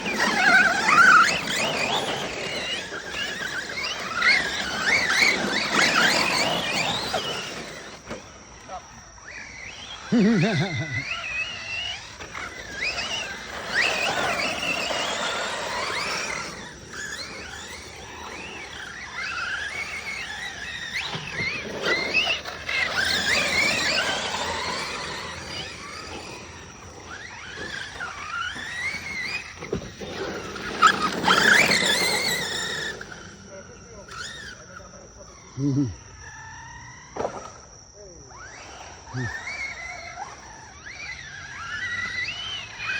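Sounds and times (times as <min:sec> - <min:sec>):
tyres rushing over ground: 0:00.0 - 0:34.5
rc truck motor whining: 0:00.0 - 0:42.9.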